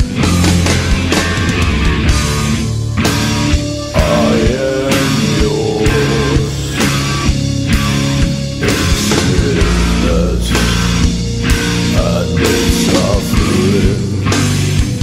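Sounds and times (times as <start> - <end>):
bass and guitar chords: 0.0 - 15.0.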